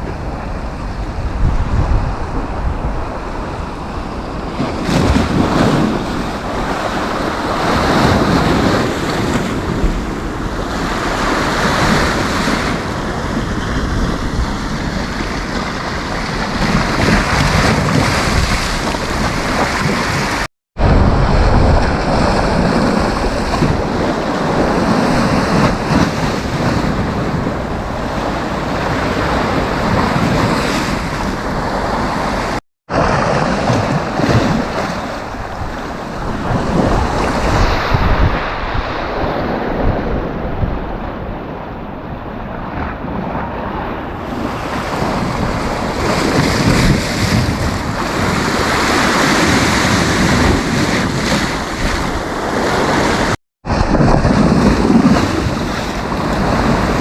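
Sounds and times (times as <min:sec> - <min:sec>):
sea surf breaking on beach: 0:00.0 - 0:57.0
wind buffeting microphone: 0:00.0 - 0:57.0.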